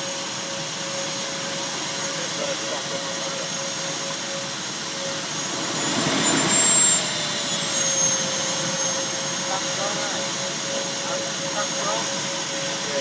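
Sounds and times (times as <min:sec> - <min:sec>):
jet turbine whine and roar: 0:00.0 - 0:13.0.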